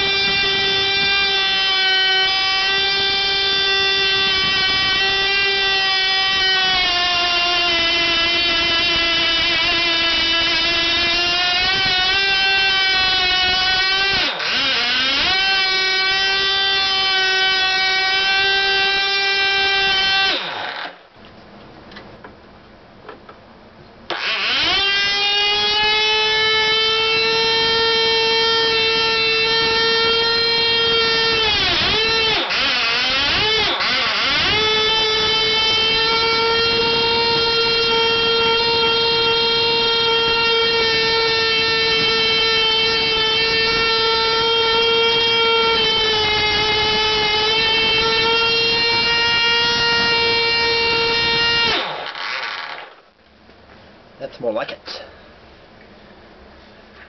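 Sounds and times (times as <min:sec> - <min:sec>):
model engine high-pitched scream: 0:00.0 - 0:21.0, 0:24.1 - 0:53.0.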